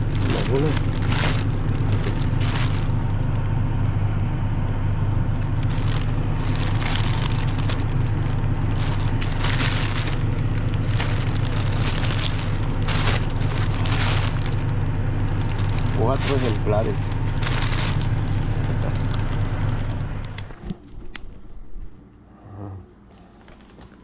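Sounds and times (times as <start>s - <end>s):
plastic bag rustling: 0.0s - 3.5s, 5.5s - 22.0s
low steady hum: 0.0s - 24.0s.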